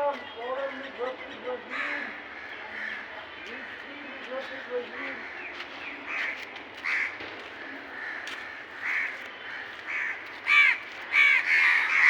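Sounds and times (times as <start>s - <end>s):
crows cawing: 1.6s - 12.0s.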